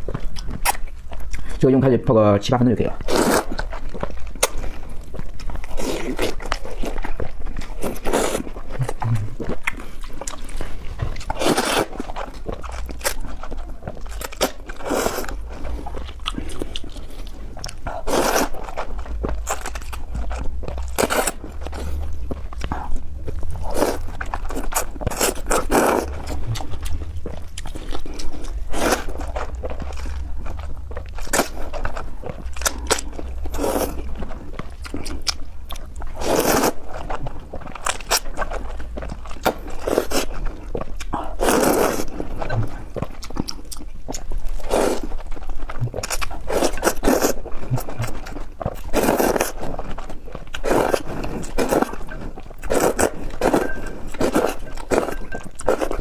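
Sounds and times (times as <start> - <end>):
chewing and crunching: 0.0 - 56.0
low steady hum: 0.0 - 56.0.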